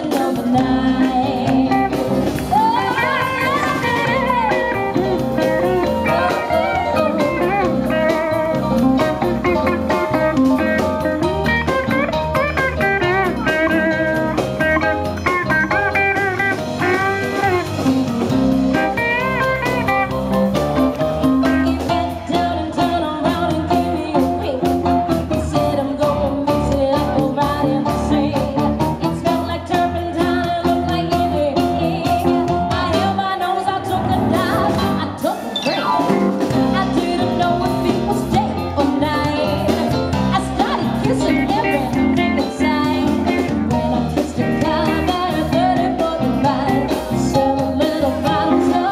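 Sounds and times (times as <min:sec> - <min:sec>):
person singing: 0:00.0 - 0:20.0, 0:21.4 - 0:48.9
blues-rock guitar music: 0:00.0 - 0:48.9.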